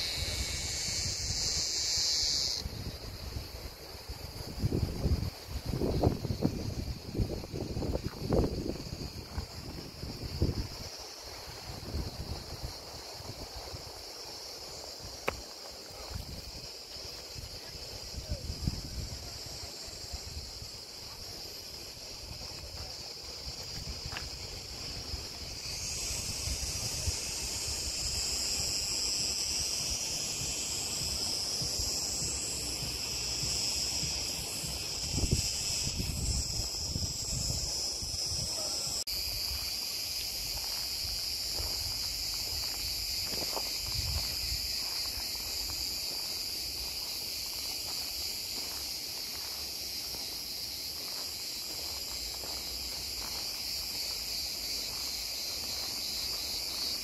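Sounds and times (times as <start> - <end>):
wind rumble on microphone: 0.0 - 15.2, 16.1 - 57.0
cicadas chorus: 0.0 - 57.0.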